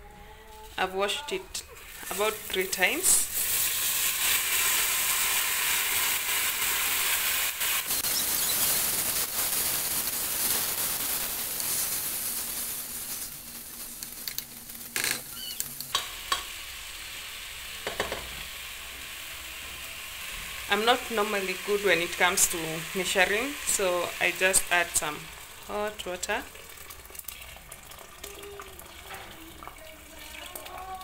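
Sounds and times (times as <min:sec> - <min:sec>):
rice sizzling in oil: 0:01.7 - 0:31.0.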